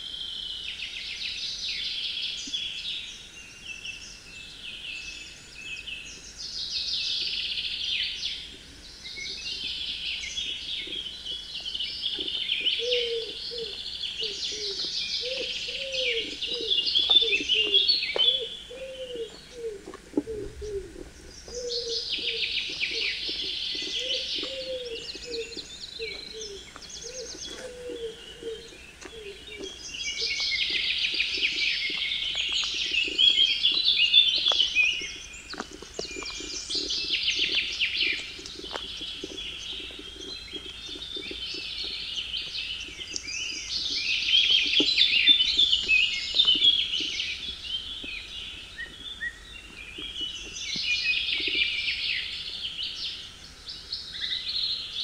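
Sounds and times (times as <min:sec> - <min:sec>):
songbirds twittering: 0:00.0 - 0:55.0.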